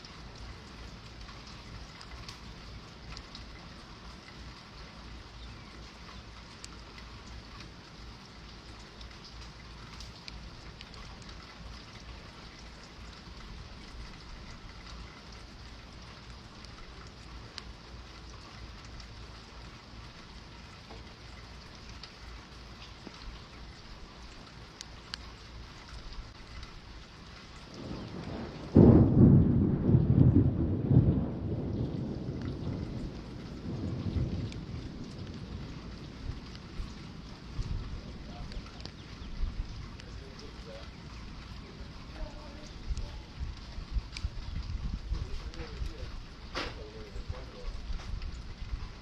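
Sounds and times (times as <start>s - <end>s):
raindrop ticks: 0.0s - 49.0s
steady rain: 0.0s - 49.0s.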